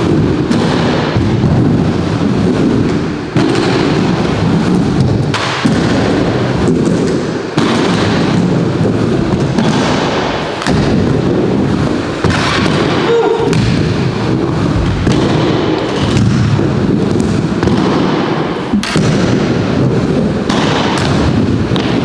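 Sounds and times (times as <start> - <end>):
skate wheels rolling on wooden ramp: 0.0 - 22.0
skates knocking on ramp coping: 0.0 - 22.0.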